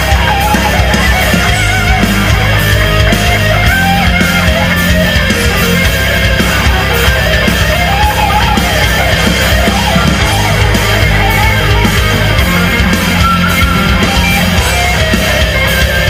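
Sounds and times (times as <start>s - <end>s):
heavy rock music with guitar: 0.0s - 16.0s.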